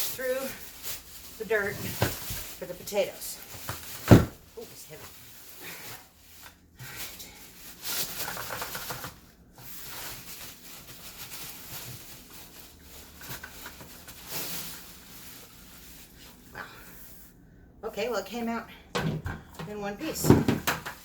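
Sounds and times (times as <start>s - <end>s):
plastic bag rustling and crinkling: 0.0s - 17.4s
scraping and shuffling: 0.0s - 21.0s.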